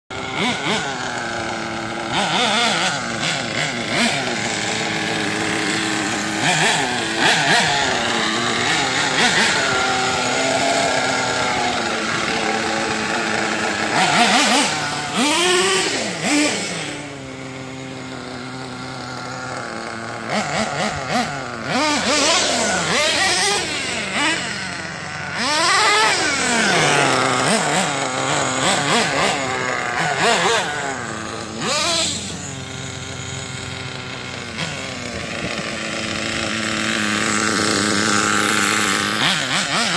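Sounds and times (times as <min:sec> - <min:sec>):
small two-stroke engine revving: 0:00.1 - 0:39.9.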